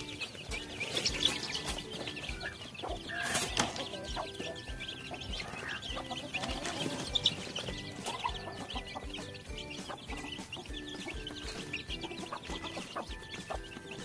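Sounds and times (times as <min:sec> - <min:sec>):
background music with steady beat: 0:00.0 - 0:14.0
chicks peeping: 0:00.0 - 0:14.0.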